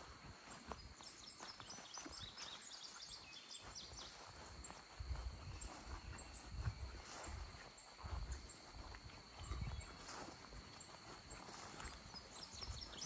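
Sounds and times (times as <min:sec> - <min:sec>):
insects humming: 0:00.0 - 0:13.0
bird chirping: 0:00.7 - 0:13.0.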